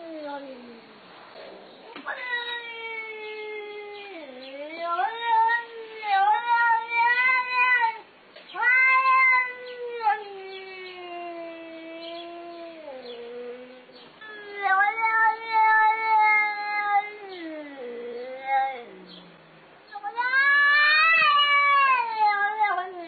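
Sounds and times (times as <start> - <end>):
cat yowling: 1.9 - 23.0.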